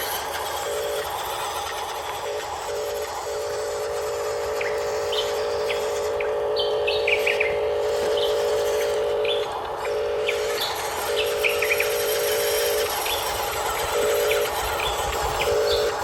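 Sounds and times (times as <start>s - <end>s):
electric motor hum: 0.0s - 16.0s
birds chirping: 0.7s - 16.0s.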